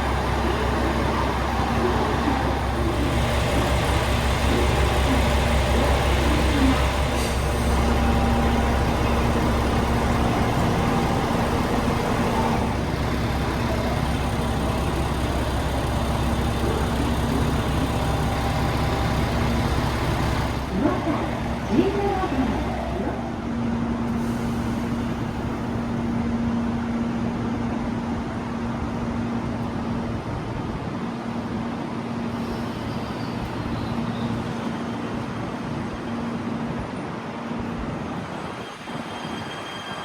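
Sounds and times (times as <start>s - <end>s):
diesel train engines idling: 0.0s - 40.0s.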